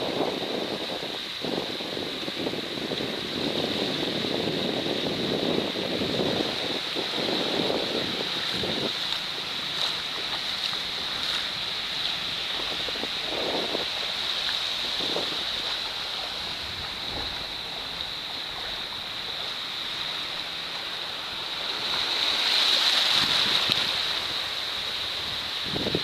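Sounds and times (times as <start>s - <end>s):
small waves washing over sand: 0.0s - 26.0s.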